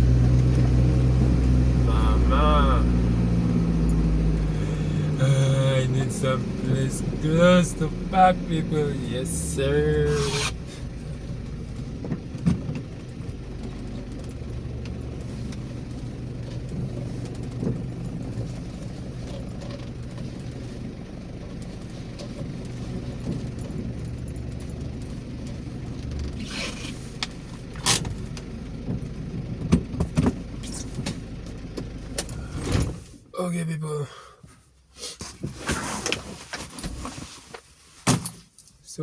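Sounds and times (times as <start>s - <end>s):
car engine and road noise: 0.0s - 33.7s.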